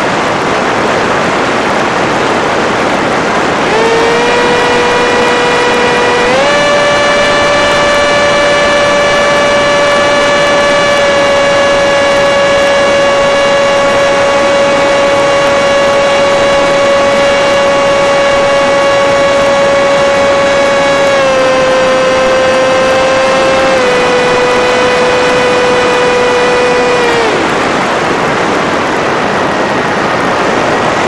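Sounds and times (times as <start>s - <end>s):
electric motor high whine: 3.4s - 31.0s.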